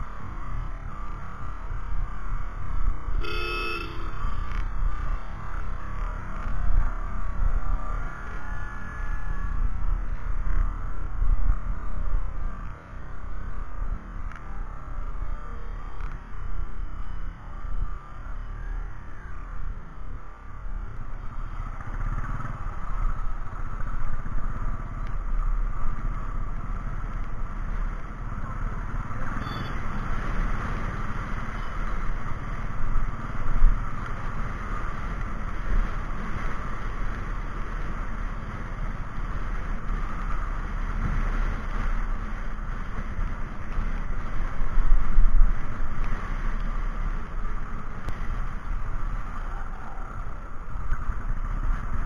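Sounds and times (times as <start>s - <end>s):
wind rumble on microphone: 4.0s - 52.0s.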